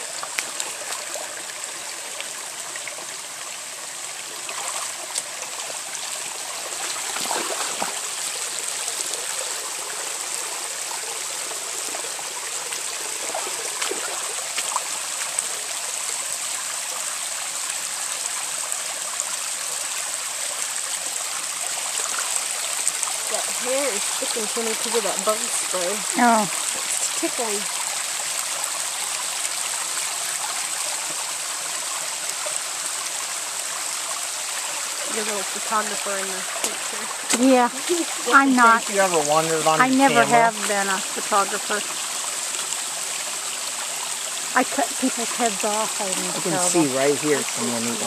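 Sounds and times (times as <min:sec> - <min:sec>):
creek water rushing over rocks: 0:00.0 - 0:48.0.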